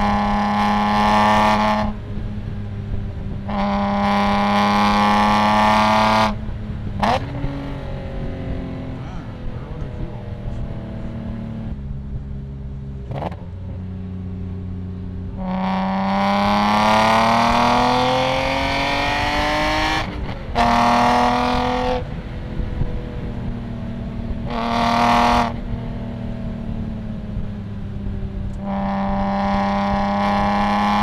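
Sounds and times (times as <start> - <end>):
car engine revving loud exhaust: 0.0 - 31.0.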